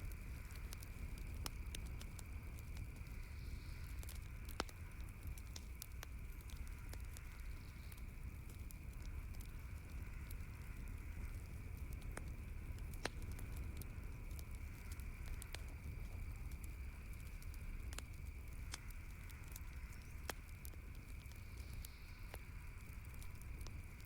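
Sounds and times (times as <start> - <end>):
campfire crackling: 0.0 - 24.0
low rumble and hiss: 0.0 - 24.0.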